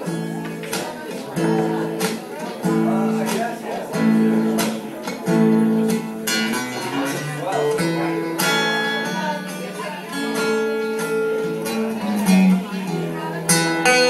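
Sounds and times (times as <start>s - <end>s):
fingerstyle blues acoustic guitar: 0.0s - 14.0s.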